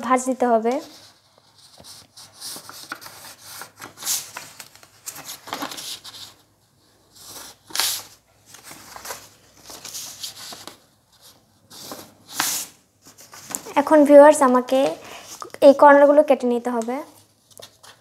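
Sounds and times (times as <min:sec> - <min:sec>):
paper rustling and rubbing: 0:00.6 - 0:15.9.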